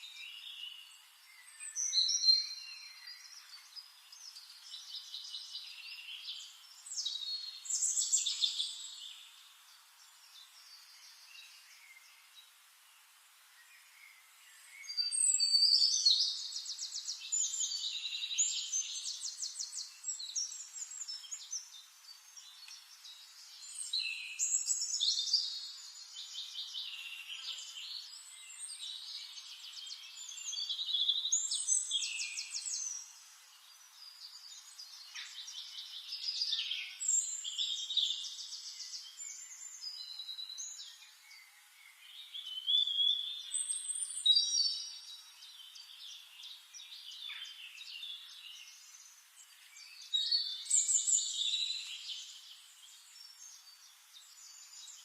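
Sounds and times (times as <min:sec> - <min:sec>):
songbird trills and warbles: 0:00.0 - 0:55.0.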